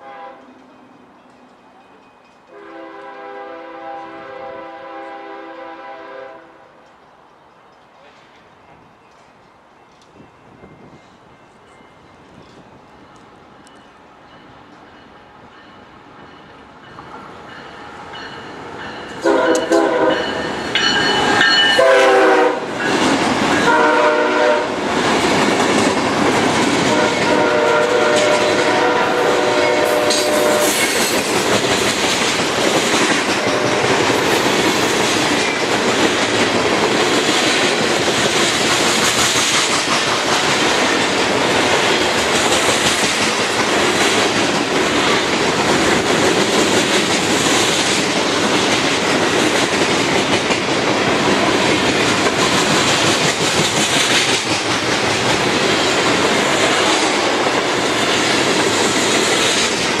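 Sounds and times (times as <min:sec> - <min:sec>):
freight train wheels clattering on rail: 0:06.7 - 1:00.0.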